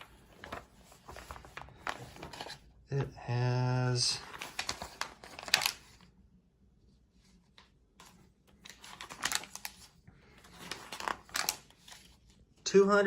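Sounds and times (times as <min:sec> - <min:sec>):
paper pages rustling: 0:00.0 - 0:03.1, 0:04.1 - 0:06.1, 0:07.1 - 0:12.6.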